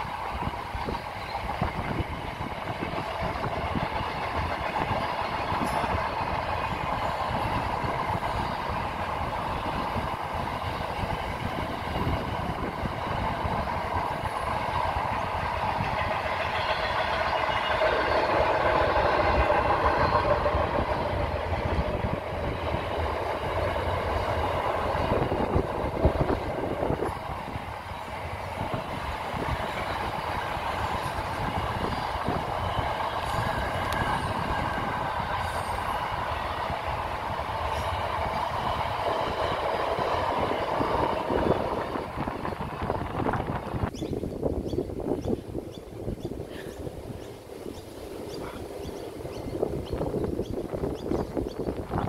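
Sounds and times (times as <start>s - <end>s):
train wheels rumbling on bridge: 0.0s - 52.0s.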